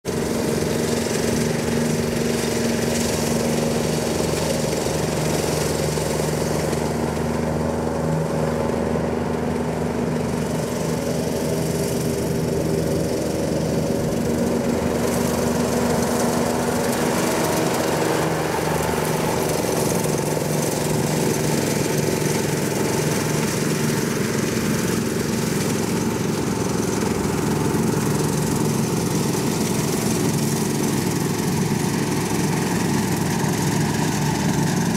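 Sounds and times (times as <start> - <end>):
riding lawn mower engine hum: 0.0 - 34.9.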